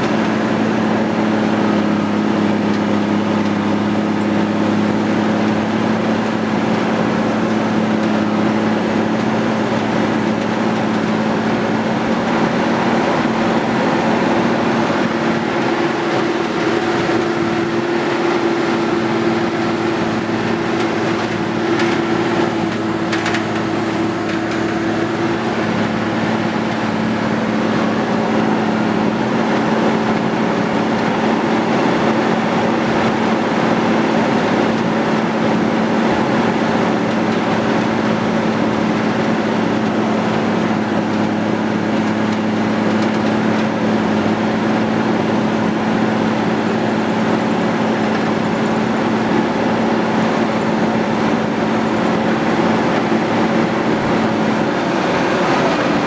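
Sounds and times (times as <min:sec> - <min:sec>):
diesel engine drone from cab: 0:00.0 - 0:56.0.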